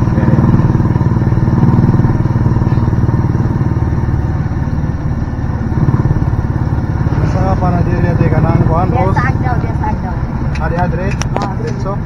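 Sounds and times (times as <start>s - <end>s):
small motorcycle engine running: 0.0s - 10.0s.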